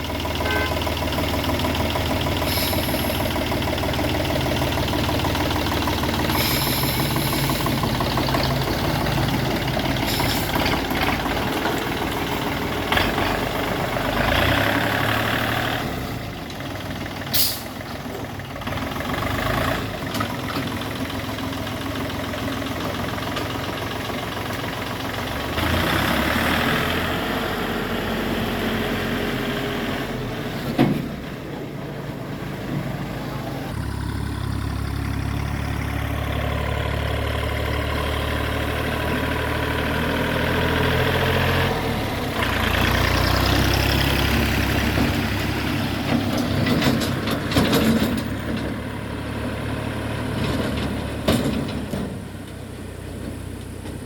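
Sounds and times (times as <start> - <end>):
heavy machinery engine running: 0.0 - 54.0.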